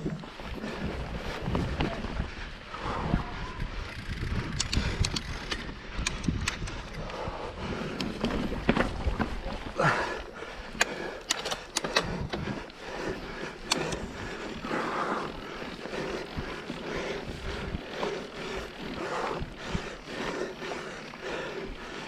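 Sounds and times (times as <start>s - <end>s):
bike tyres rolling on dirt: 0.0s - 22.0s
bike rattling clicks and knocks: 3.6s - 22.0s.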